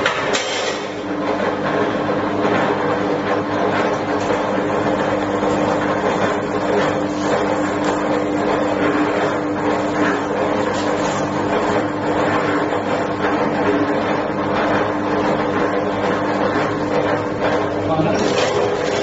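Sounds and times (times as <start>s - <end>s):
feed rollers mechanical noise: 0.0s - 19.0s
wire stripping machine motor hum: 0.0s - 19.0s.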